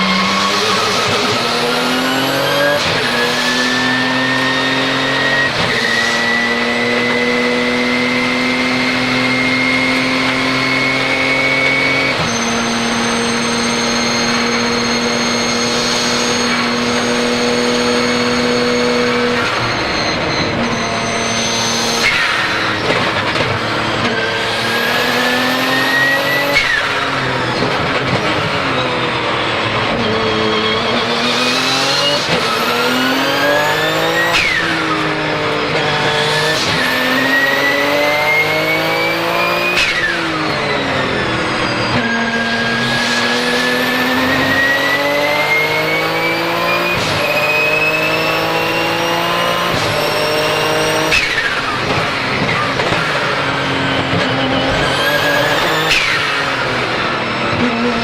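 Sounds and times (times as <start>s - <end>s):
high turbo whistle: 0.0s - 58.0s
racing car engine at speed: 0.0s - 58.0s.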